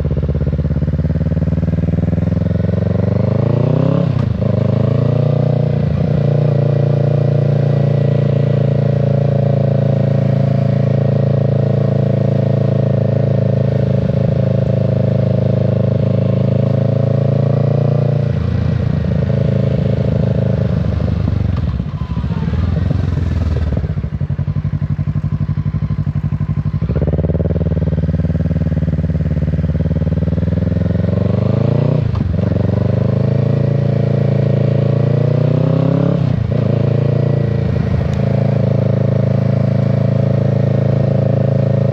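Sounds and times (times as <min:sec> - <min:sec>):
motorcycle engine and exhaust: 0:00.0 - 0:41.9.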